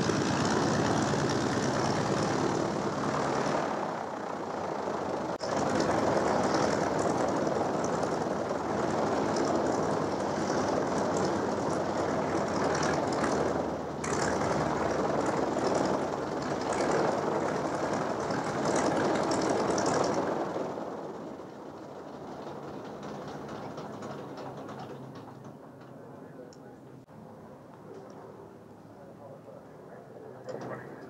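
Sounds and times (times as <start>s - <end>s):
biplane radial engine running: 0.0s - 31.0s.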